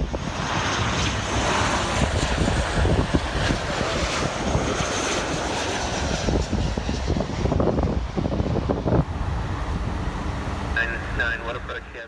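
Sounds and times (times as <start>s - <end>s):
wind buffeting microphone: 0.0s - 11.8s
jet engine rushing: 0.0s - 12.0s.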